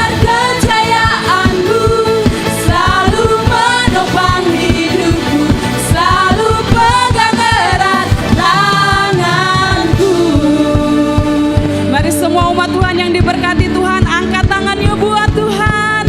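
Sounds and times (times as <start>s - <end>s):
voices singing: 0.0s - 13.4s
band playing with drums: 0.0s - 16.0s.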